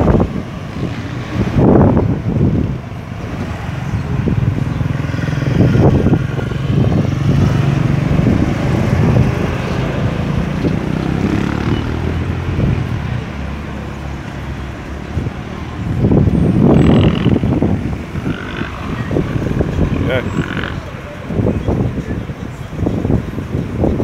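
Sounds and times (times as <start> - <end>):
vehicles driving past: 0.0 - 24.0.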